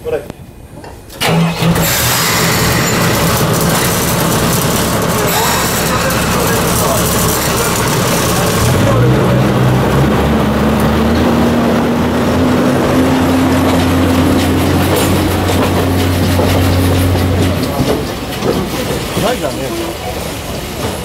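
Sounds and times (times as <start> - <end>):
train wheels rolling over rails: 0.7 - 21.0
diesel engine droning: 1.2 - 20.3.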